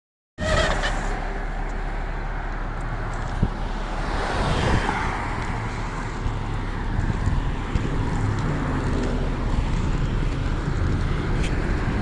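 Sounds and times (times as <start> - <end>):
road traffic rumble: 0.4 - 12.0.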